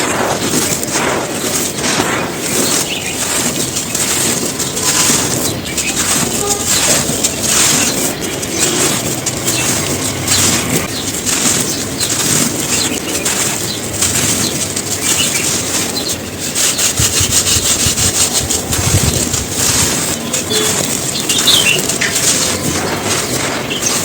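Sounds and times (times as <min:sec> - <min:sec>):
cones crunching: 0:00.0 - 0:24.0.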